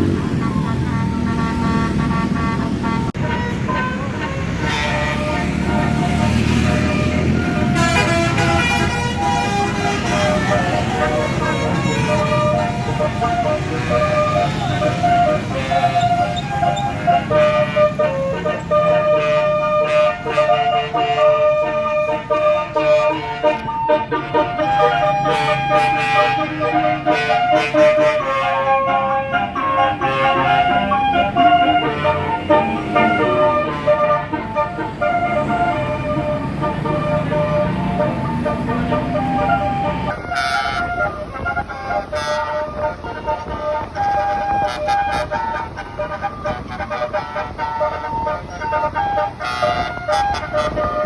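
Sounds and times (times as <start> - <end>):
multi-tone air horn melody: 0.0 - 51.0.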